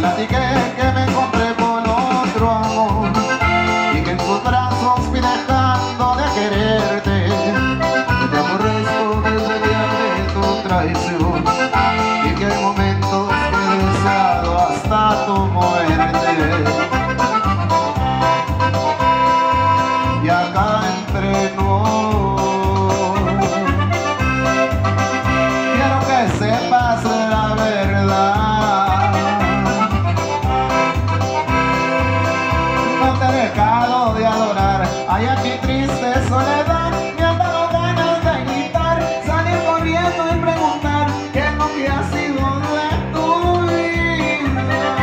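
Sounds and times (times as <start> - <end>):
accordion dance music: 0.0 - 45.0
steady bass beat: 0.0 - 45.0.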